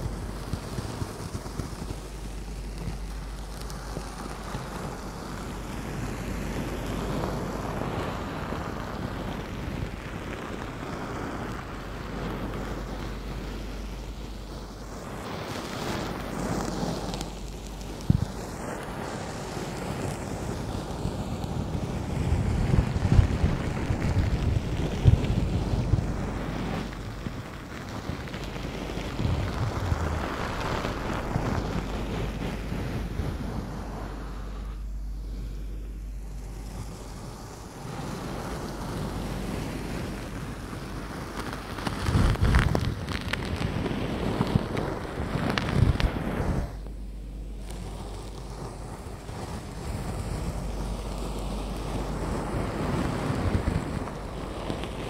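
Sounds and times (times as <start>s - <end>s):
low rumbling of bristles on mic: 0.0s - 55.0s.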